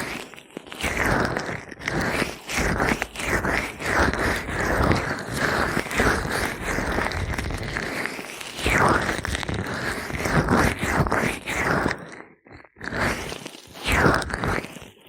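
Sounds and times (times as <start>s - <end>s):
gloved hands rubbing microphone: 0.0s - 15.0s.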